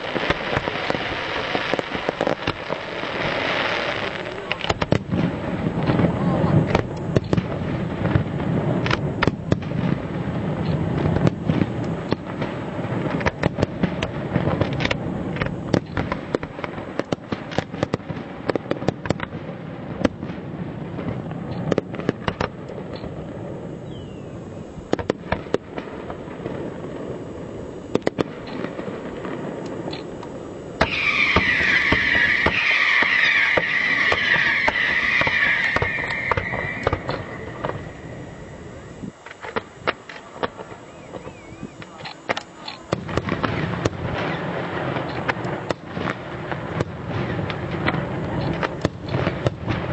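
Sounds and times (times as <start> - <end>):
fireworks bangs and crackling: 0.0 - 49.9
loud steady hiss: 0.0 - 49.9.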